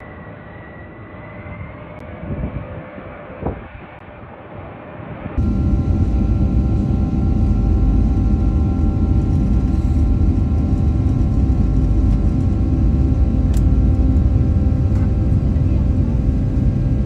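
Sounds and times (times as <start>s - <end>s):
jet engine rumble: 0.0s - 17.0s
jet engine whine: 0.0s - 17.0s.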